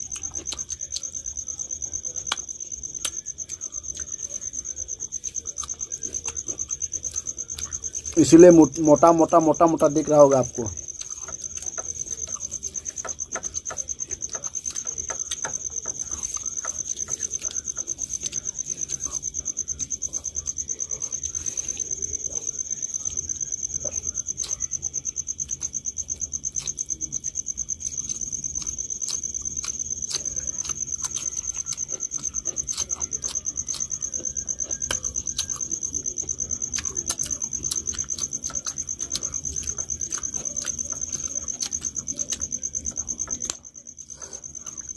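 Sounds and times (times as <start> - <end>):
chewing: 0.0 - 44.9
cricket trilling: 0.0 - 44.9
people eating by hand: 0.0 - 44.9.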